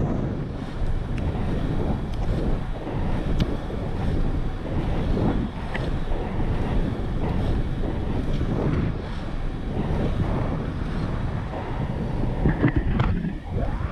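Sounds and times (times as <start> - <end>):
skate wheels rolling on asphalt: 0.0 - 13.9
wind buffeting microphone: 0.0 - 13.9.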